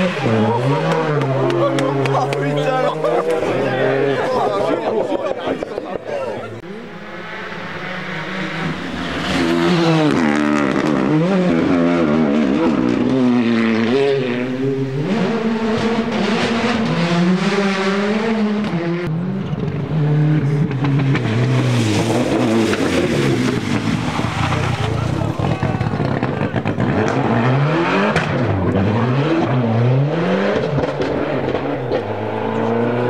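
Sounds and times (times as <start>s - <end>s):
rally car engines revving: 0.0s - 33.0s.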